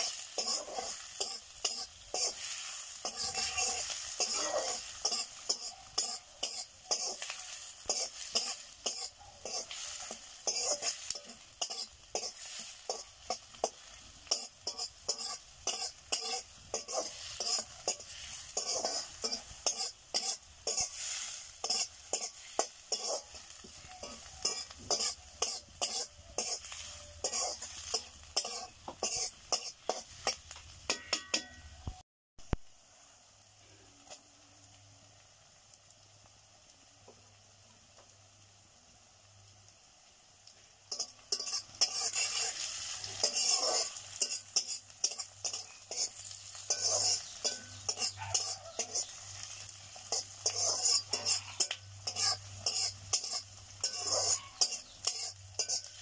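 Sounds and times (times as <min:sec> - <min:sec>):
wooden spatula scraping a pan: 0:00.0 - 0:31.4, 0:40.9 - 0:56.0
onions sizzling in hot oil: 0:00.0 - 0:56.0.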